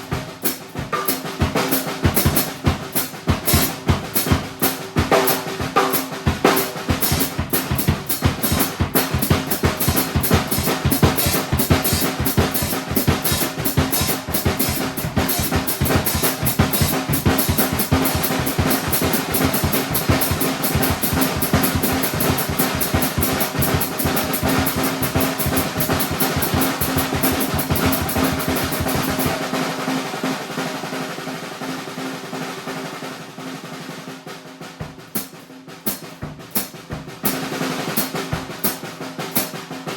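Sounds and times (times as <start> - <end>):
drum kit playing fast groove: 0.0 - 39.9
snare and bass drum rolls: 0.0 - 39.9.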